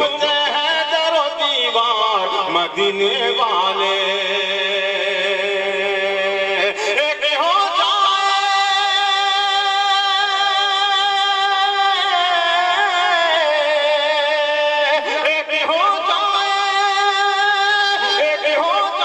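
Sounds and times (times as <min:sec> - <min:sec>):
man singing melodically: 0:00.0 - 0:19.0.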